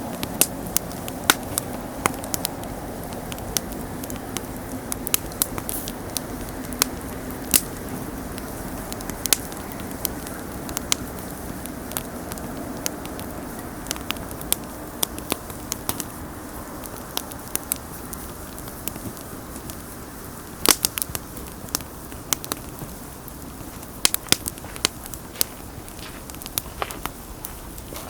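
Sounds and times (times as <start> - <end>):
fire pops and crackles: 0.0 - 28.0
wood fire rumble: 0.0 - 28.0.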